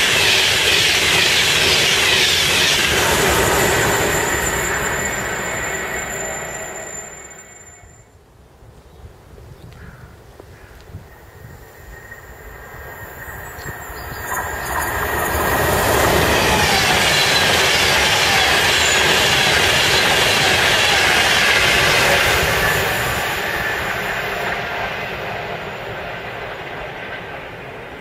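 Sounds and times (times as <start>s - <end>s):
train passing at speed: 0.0s - 8.3s, 11.0s - 28.0s.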